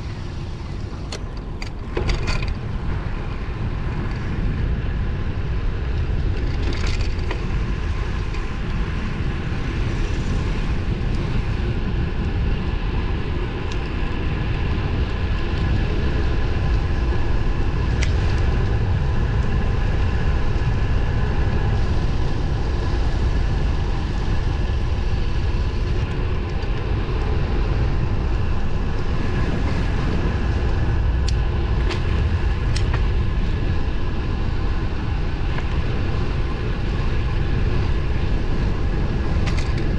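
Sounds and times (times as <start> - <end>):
bike tyre noise on pavement: 0.0 - 39.9
wind rumble: 0.0 - 39.9.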